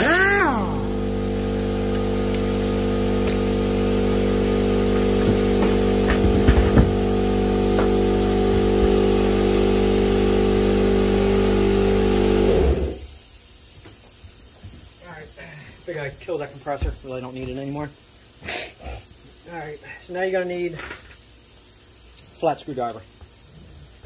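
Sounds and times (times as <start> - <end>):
air compressor running: 0.0 - 22.4.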